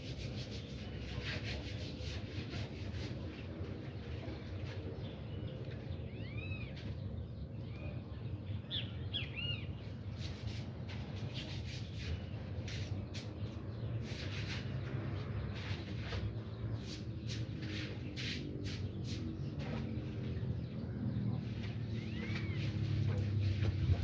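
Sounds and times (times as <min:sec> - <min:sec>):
low outdoor rumble: 0:02.6 - 0:24.0
birds chirping: 0:02.7 - 0:24.0.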